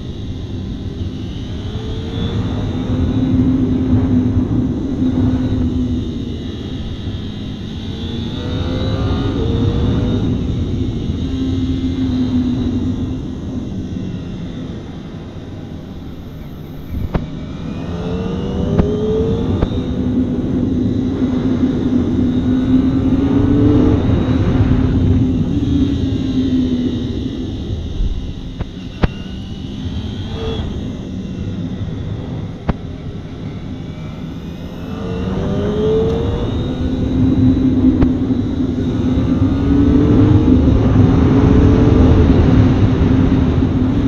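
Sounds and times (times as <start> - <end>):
motorcycle engine revving: 0.8 - 44.0.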